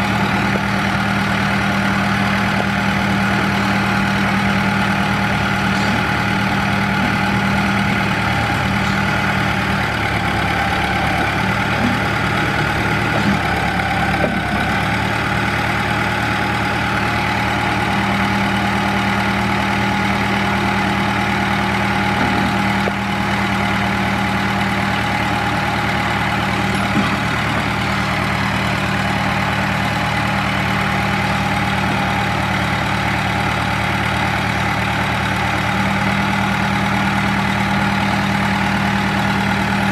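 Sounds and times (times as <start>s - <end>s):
trencher engine idling: 0.0s - 39.9s.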